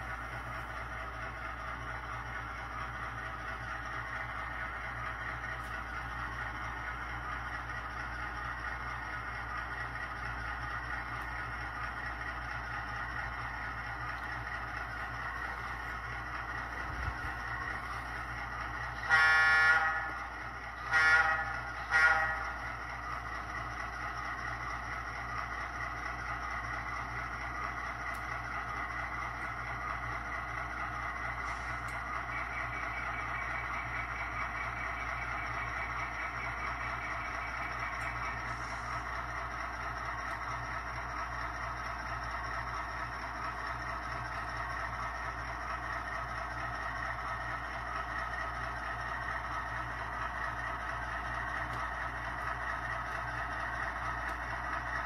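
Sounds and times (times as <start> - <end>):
diesel engine through small speaker: 0.0 - 55.0.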